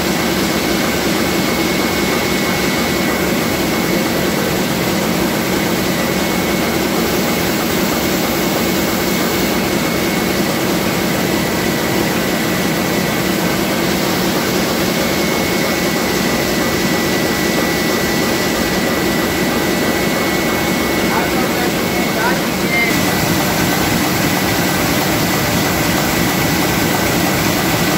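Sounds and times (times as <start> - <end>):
printing press running: 0.0 - 27.9.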